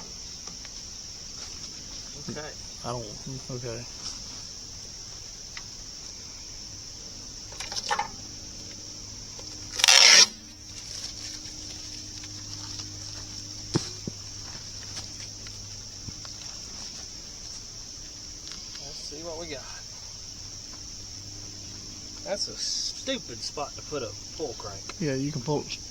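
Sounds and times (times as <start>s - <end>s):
crickets trilling: 0.0s - 25.9s.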